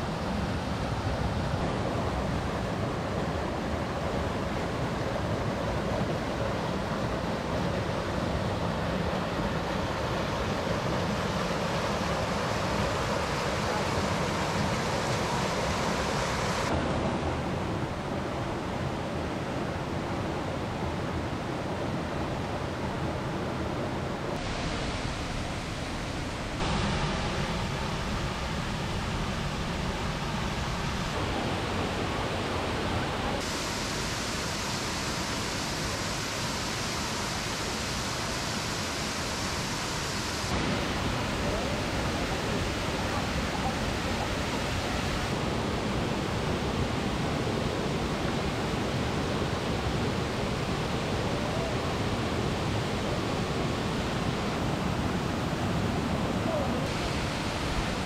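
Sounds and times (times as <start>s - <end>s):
waterfall rushing over rock: 0.2s - 58.0s.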